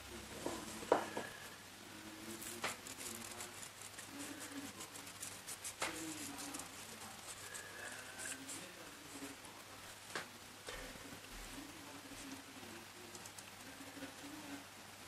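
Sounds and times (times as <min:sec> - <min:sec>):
fish food flakes pattering: 0:02.2 - 0:14.6.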